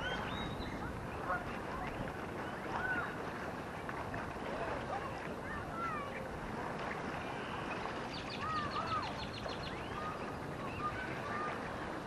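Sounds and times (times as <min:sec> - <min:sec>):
birds calling in whistled glides: 0:00.0 - 0:03.7, 0:05.2 - 0:12.0
rippling water: 0:00.0 - 0:12.0
wind: 0:00.0 - 0:12.0.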